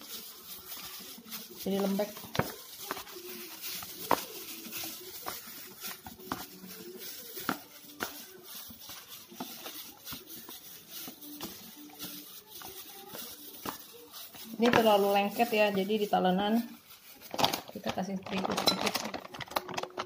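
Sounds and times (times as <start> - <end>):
plastic bag crinkling: 0.0 - 20.0
sticky dough squishing: 0.0 - 20.0.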